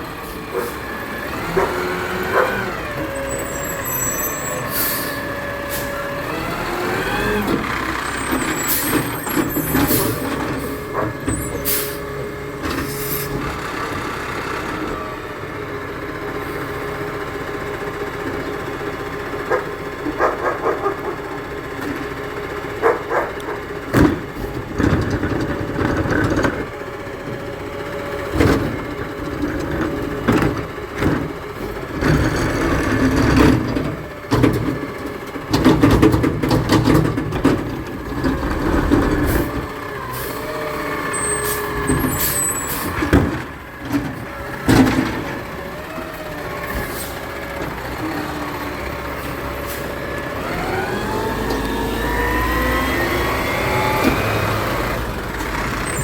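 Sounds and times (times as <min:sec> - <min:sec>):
garbage truck engine running: 0:00.0 - 0:56.0.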